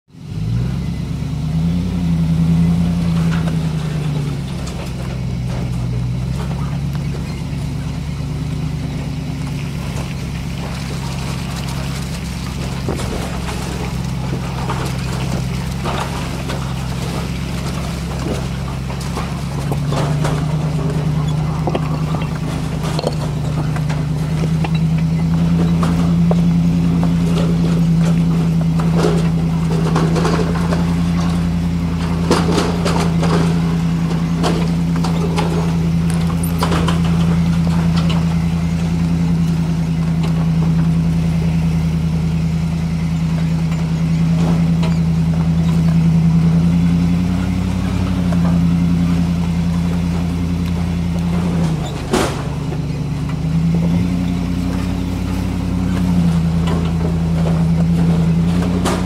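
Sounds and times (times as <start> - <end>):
car engine running at low revs: 0.0 - 59.0
rocks and gravel under tyres: 0.1 - 59.0.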